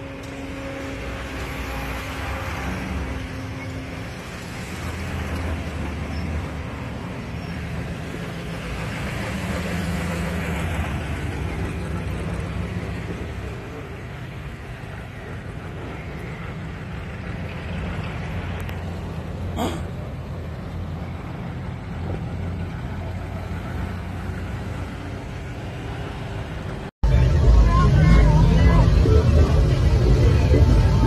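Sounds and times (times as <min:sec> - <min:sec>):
cars driving slowly past: 0:00.0 - 0:31.0.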